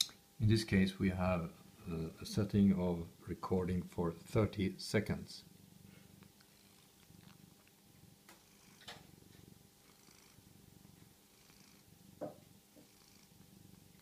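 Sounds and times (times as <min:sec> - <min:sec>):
cat purring: 0:00.8 - 0:14.0.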